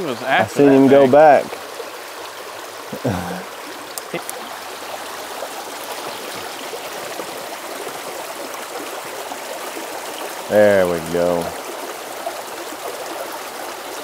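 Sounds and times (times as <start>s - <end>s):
creek running over rocks: 0.0s - 14.0s.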